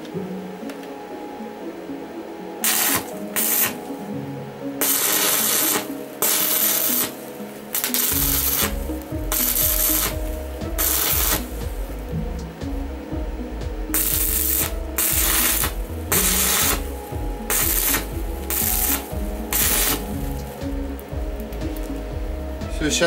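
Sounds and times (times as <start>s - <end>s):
background music: 0.0s - 23.0s
welding arc crackling: 2.6s - 4.1s, 4.8s - 23.0s.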